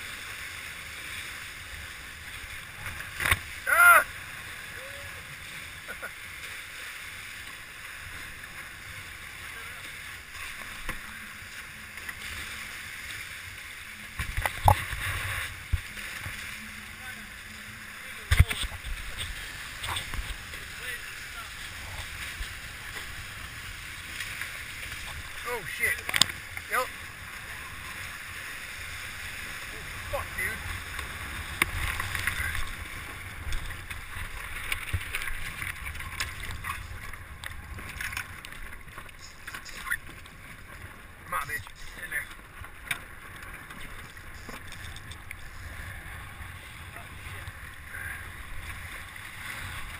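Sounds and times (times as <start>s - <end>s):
hull rushing through water: 0.0s - 49.9s
hull slapping waves: 0.0s - 49.9s
wind: 0.0s - 49.9s.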